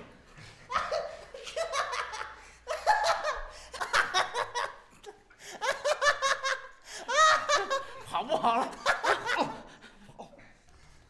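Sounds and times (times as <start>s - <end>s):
men laughing: 0.4s - 10.6s.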